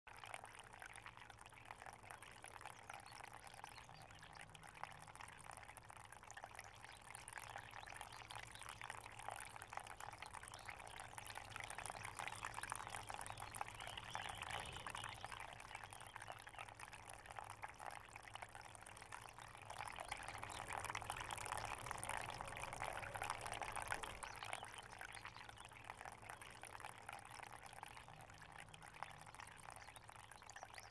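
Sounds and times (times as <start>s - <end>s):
fountain water trickling: 0.1s - 30.9s.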